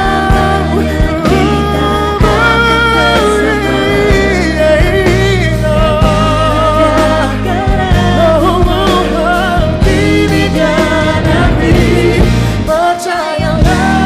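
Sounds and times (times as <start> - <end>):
live band playing pop ballad: 0.0 - 14.0
person singing: 0.0 - 14.0.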